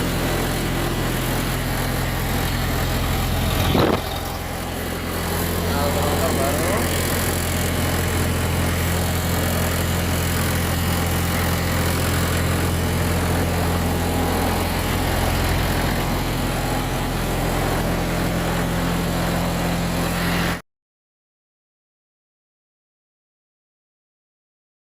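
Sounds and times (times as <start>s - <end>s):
diesel engine running: 0.0s - 20.6s.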